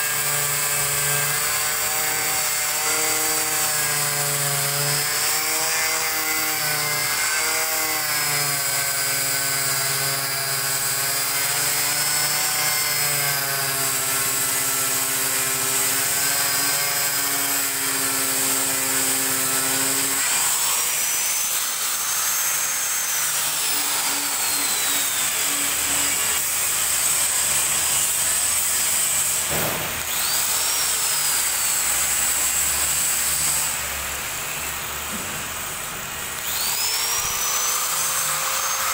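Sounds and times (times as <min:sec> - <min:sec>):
angle grinder grinding acrylic: 0:00.0 - 0:29.4, 0:36.3 - 0:38.9.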